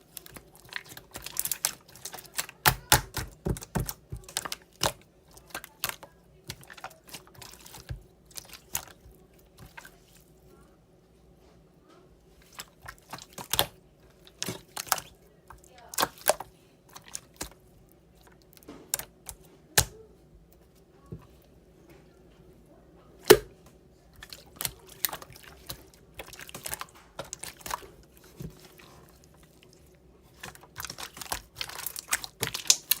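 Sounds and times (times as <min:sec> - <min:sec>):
faint room hum: 0:00.0 - 0:33.0.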